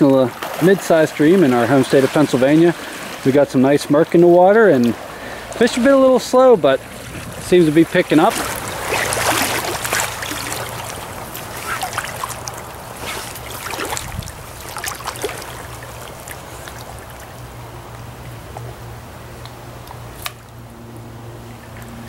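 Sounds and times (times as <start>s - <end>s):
small water splashes and drips: 0.0s - 22.0s
stream water trickling: 0.0s - 22.0s.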